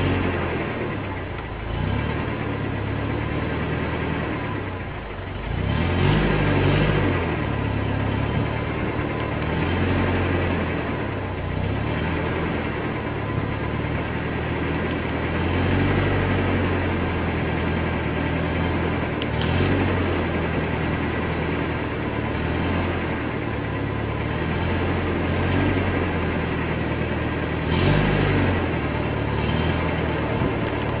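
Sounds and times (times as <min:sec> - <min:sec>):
motor running low: 0:00.0 - 0:31.0.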